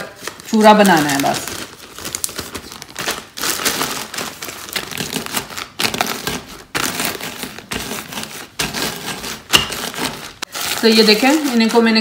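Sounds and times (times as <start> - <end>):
cookies cracking and crunching: 0.0 - 12.0
plastic bag crinkling: 0.0 - 12.0.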